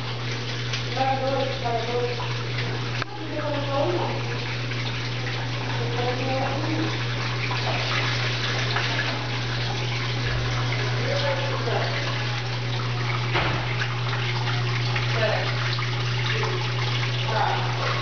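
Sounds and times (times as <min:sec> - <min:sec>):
low motor hum: 0:00.0 - 0:18.0
water sloshing in washing machine: 0:00.0 - 0:18.0.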